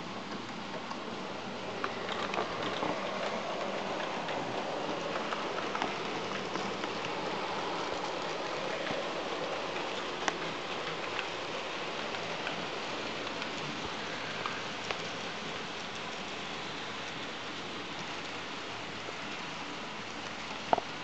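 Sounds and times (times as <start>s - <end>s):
model train wheels rattling on rails: 0.1s - 21.0s.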